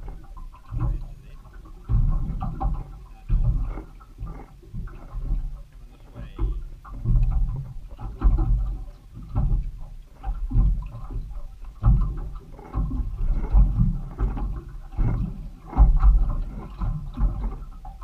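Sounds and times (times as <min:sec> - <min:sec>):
water slapping boat hull: 0:00.0 - 0:18.0
wind buffeting microphone: 0:00.0 - 0:18.0.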